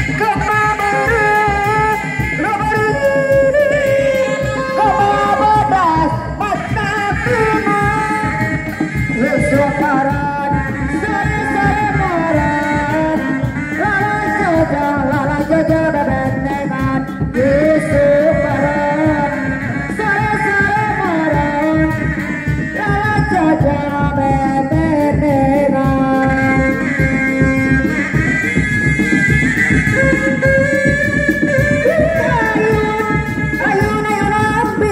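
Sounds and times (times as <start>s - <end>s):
drums beating fast rhythm: 0.0s - 34.9s.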